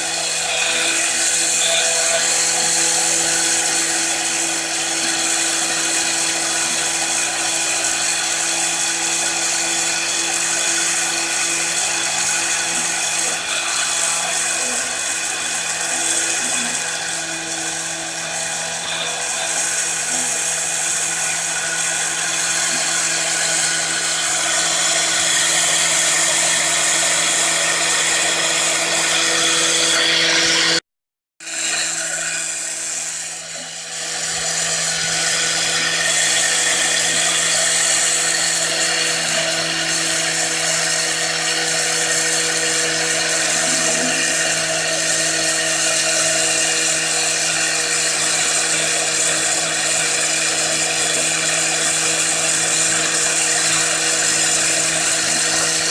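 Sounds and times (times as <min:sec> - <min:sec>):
power tool motor whining: 0:00.0 - 0:30.8, 0:31.4 - 0:55.9.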